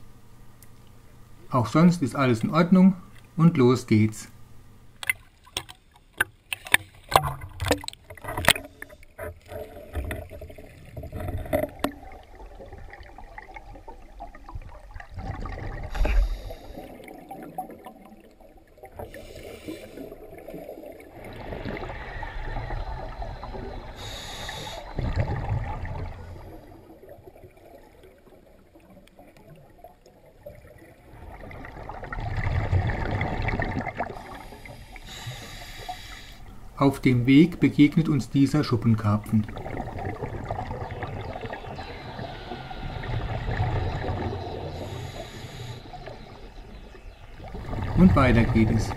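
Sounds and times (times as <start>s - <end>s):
water splashing and sloshing: 4.9s - 48.9s
underwater bubbles rushing: 6.6s - 36.0s, 37.6s - 48.9s.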